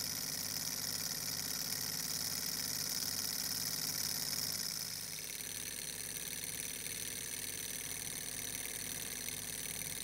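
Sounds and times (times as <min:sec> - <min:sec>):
small engine whirring and rattling: 0:00.0 - 0:10.0.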